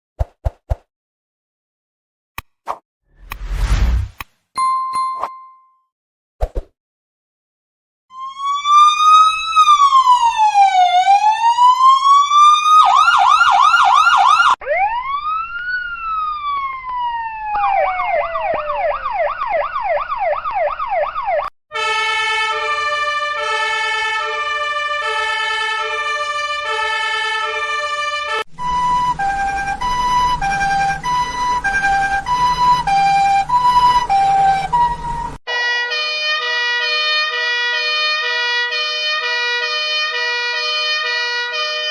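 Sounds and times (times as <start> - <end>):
two-tone siren: 8.1 - 41.9
wailing siren: 8.1 - 41.9
yelping siren: 8.1 - 41.9.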